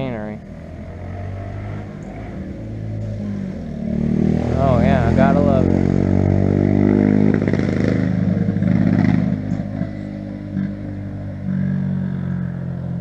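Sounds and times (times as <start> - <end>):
motorcycle engine passing: 0.0 - 13.0.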